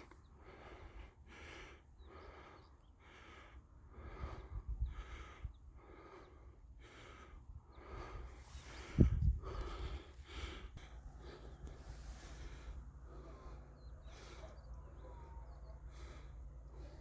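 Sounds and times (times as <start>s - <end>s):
faint rhythmic breathing: 0.0s - 17.0s.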